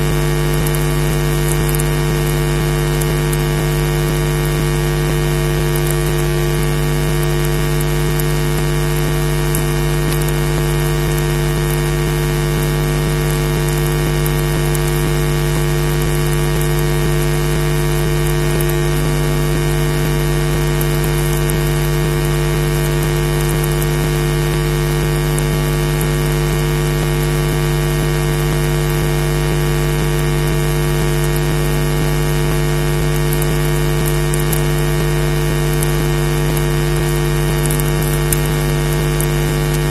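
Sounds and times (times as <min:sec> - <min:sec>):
electrical hum: 0:00.0 - 0:39.9
static hiss: 0:00.0 - 0:39.9.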